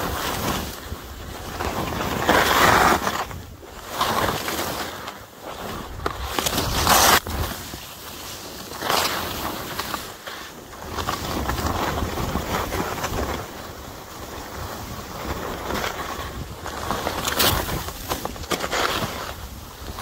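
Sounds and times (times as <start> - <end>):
skis swishing on snow: 0.0 - 20.0
wind rumbling on microphone: 0.0 - 20.0.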